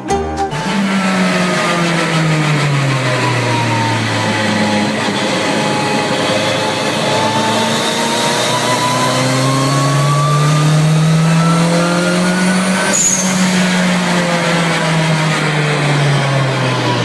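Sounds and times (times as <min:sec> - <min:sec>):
race car engine accelerating: 0:00.4 - 0:17.0.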